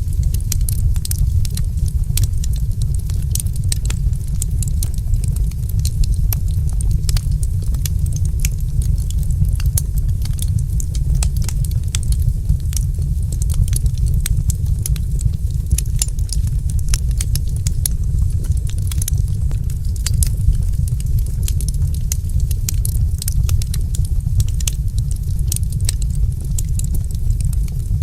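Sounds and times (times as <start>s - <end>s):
low rumble of burning: 0.0s - 28.0s
wood fire crackling and popping: 0.0s - 28.0s.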